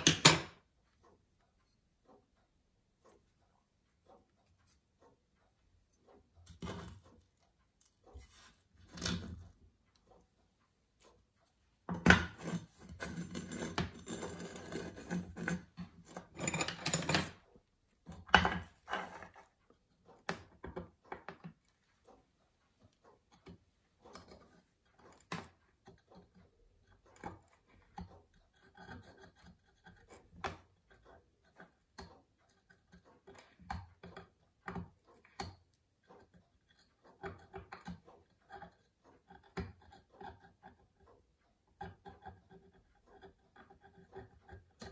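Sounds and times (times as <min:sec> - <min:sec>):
light clicks and short scratches: 0:03.0 - 0:44.9.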